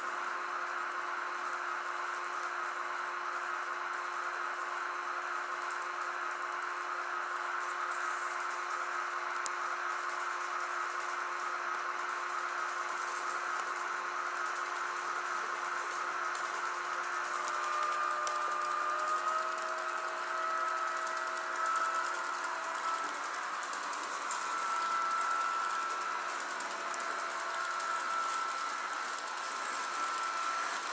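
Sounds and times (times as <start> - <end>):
constant hum: 0.0 - 30.9
model train motor whir: 0.0 - 30.9
wheels clicking on track: 5.4 - 30.9.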